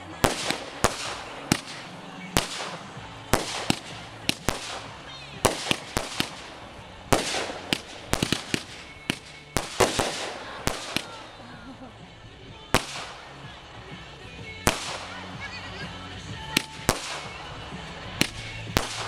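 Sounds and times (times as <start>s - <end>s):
fireworks bangs: 0.0s - 19.0s
fireworks hiss: 0.0s - 19.0s.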